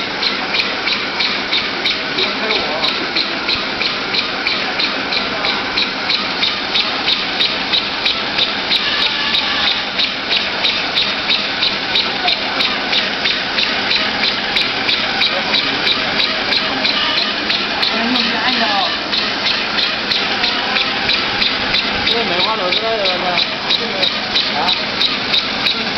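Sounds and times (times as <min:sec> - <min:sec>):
machine clicking rhythmically: 0:00.0 - 0:25.9.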